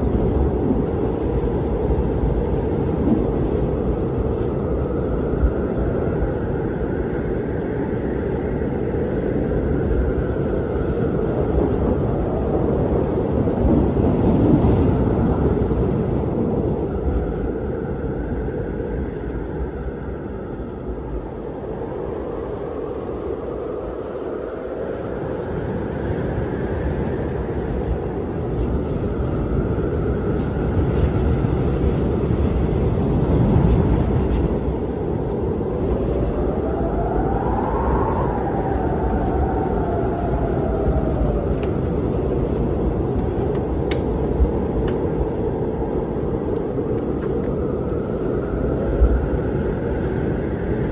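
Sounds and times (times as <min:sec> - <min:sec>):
howling wind: 0:00.0 - 0:50.9.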